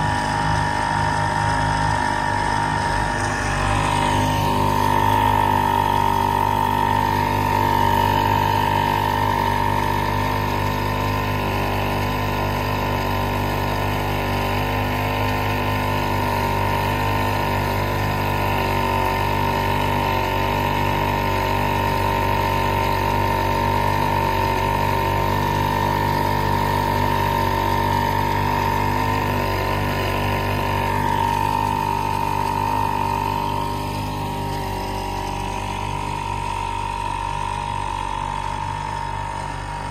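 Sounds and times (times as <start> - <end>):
outboard motor running: 0.0 - 39.9
water rushing in wake: 0.0 - 39.9.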